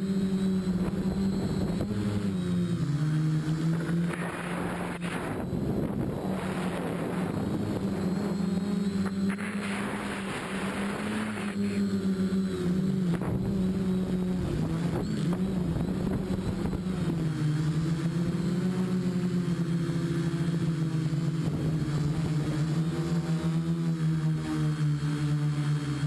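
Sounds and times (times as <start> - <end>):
drone motors humming: 0.0 - 26.0.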